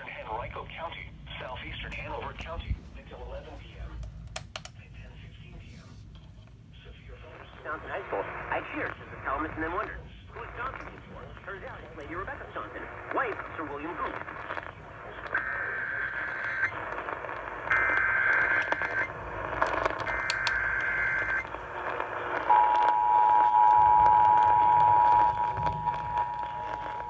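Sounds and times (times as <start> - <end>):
radio static: 0.0 - 4.1, 6.7 - 27.0.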